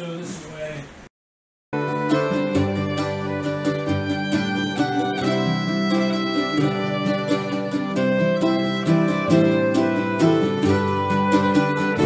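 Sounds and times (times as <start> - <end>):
plucked string music: 1.8 - 12.0.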